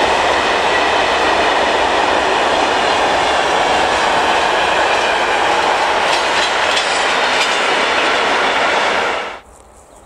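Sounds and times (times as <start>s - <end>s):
freight wagons rumbling on rails: 0.0s - 9.4s.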